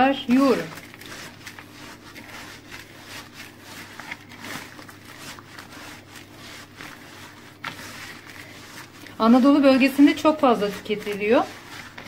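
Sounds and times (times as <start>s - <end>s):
hands kneading wet stuffing: 0.0s - 12.0s.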